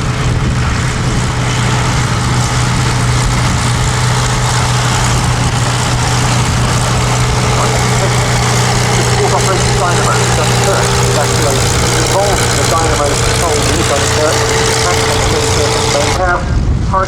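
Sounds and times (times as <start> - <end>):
piston aircraft engines droning: 0.0 - 16.9.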